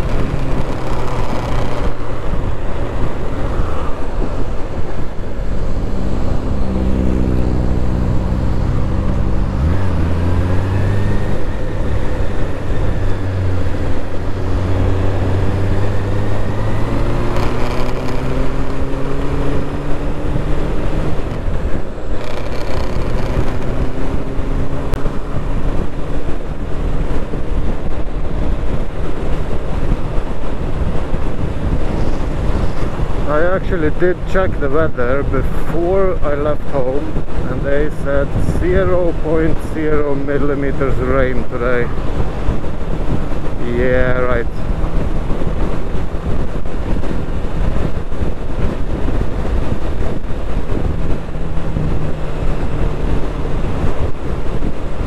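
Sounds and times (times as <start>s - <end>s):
motorcycle engine accelerating: 0.0s - 35.4s, 36.2s - 55.0s
wind and road noise: 0.0s - 55.0s.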